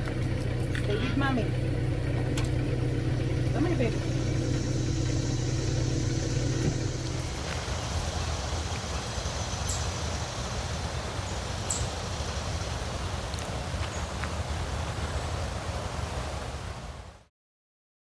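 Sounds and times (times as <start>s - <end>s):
even rumbling noise: 0.0s - 17.0s
low motor hum: 0.0s - 17.0s.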